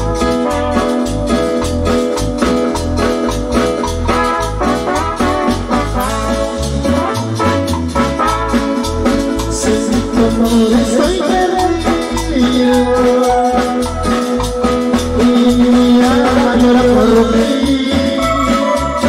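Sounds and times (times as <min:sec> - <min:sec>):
latin dance music: 0:00.0 - 0:19.0.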